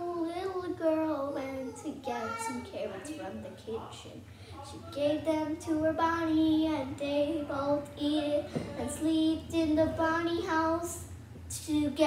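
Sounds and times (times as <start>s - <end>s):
child singing: 0.0s - 3.0s, 4.7s - 12.0s.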